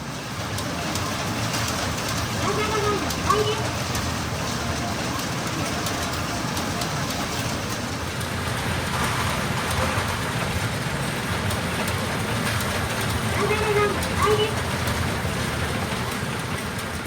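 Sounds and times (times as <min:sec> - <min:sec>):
steel balls rattling in machines: 0:00.0 - 0:17.0.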